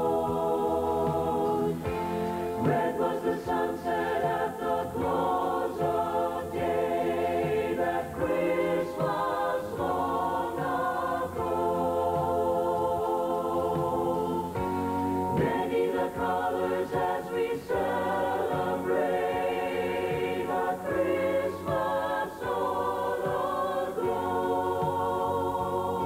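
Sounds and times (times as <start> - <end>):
mixed choir singing: 0.0 - 26.0.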